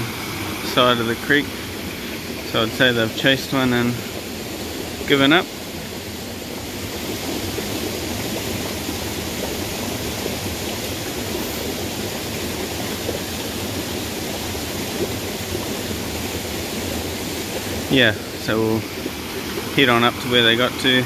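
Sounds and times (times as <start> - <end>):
forest creek running: 0.0 - 21.0.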